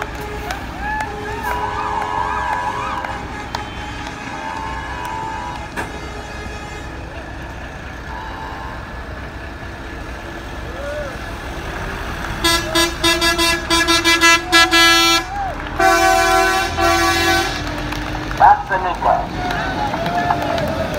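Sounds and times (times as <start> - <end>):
fire truck horns honking: 0.0 - 20.9
heavy vehicles passing: 0.0 - 20.9.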